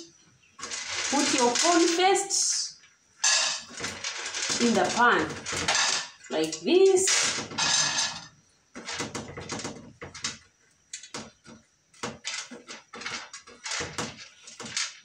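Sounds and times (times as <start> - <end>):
corn kernels rattling on metal: 0.6 - 15.0.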